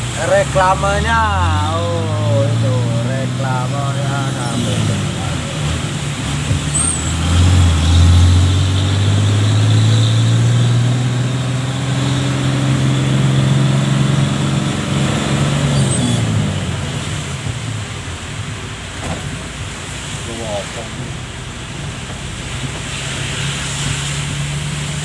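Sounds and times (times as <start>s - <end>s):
heavy rain: 0.0s - 25.0s
large vehicle engine hum: 0.0s - 25.0s.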